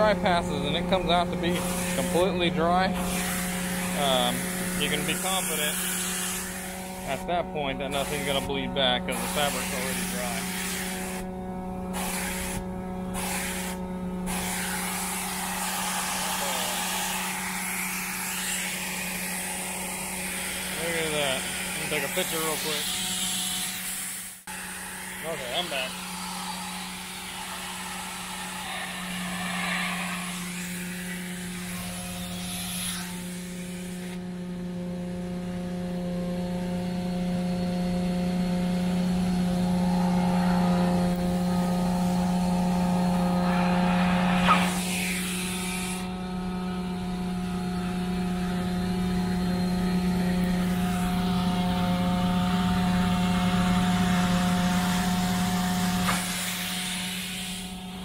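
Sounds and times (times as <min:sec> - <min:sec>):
vacuum suction hiss and hum: 0:00.0 - 0:34.2, 0:37.2 - 0:58.0.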